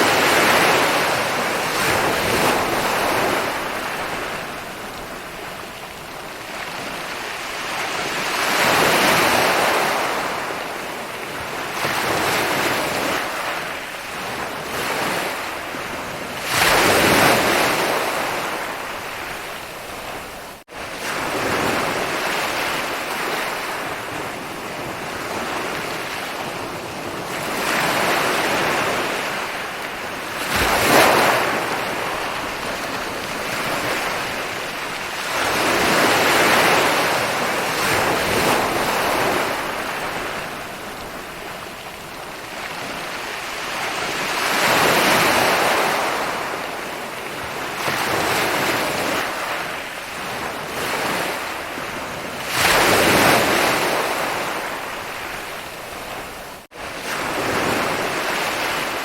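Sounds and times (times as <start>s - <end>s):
ocean waves breaking on a beach: 0.0s - 59.0s.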